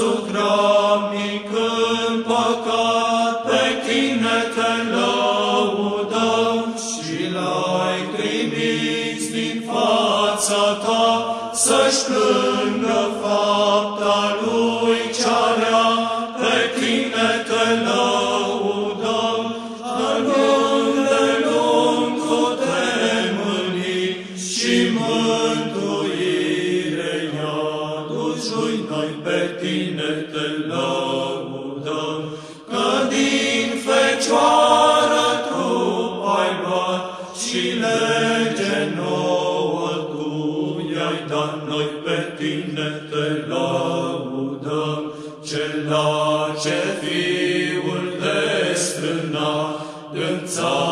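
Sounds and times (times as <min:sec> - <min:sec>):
voices chanting a hymn: 0:00.0 - 0:50.9.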